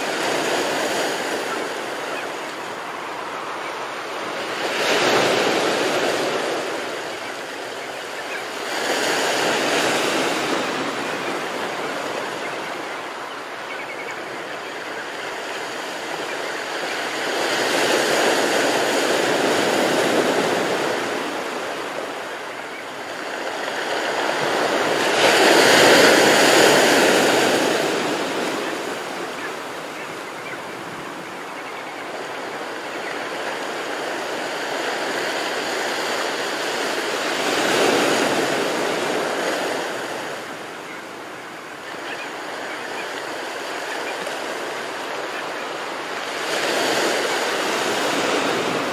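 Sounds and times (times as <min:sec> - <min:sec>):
sea waves washing over shallow water: 0:00.0 - 0:48.9.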